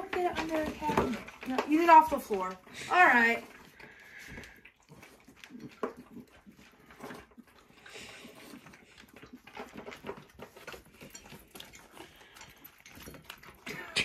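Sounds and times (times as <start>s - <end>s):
dogs chewing and licking: 0.0s - 14.0s.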